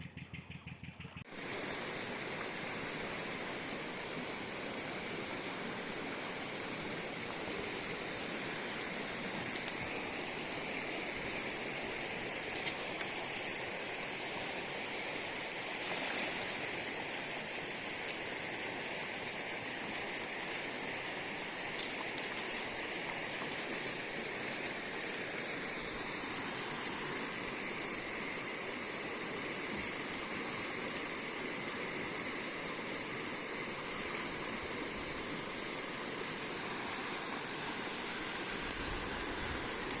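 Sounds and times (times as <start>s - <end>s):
river water rushing over rocks: 1.3s - 40.0s.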